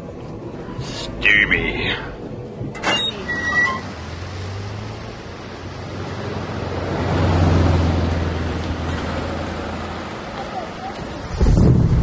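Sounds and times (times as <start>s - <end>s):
car engine passing: 0.4s - 12.0s.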